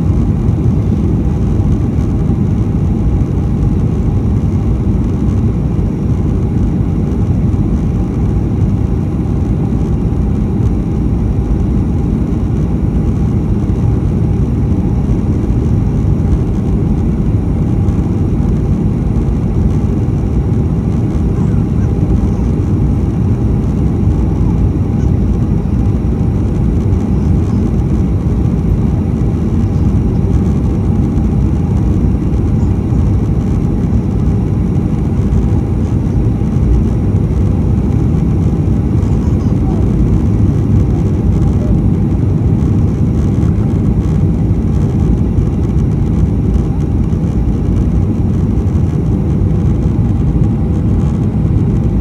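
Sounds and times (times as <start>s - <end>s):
faint steady hum: 0.0s - 52.0s
jet engine roar in cabin: 0.0s - 52.0s.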